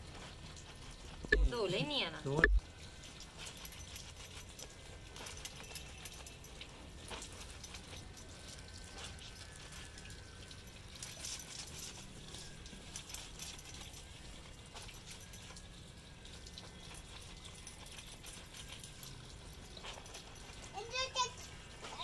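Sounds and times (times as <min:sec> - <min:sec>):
water drips and splashes: 0:00.0 - 0:22.0.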